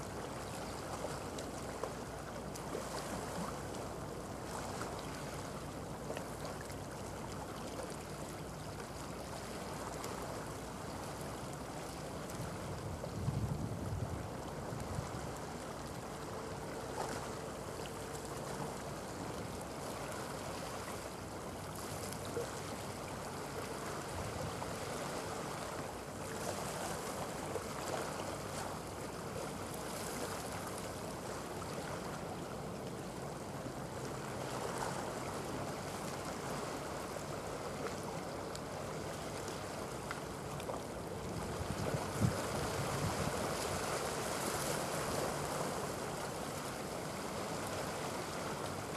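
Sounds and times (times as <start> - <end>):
distant ship engines hum: 0.0 - 48.9
wind: 0.0 - 48.9.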